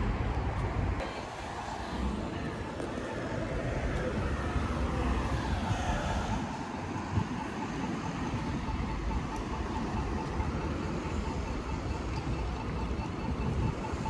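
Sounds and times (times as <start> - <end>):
passing cars: 0.0 - 14.0
faint rapid beeping: 1.0 - 14.0.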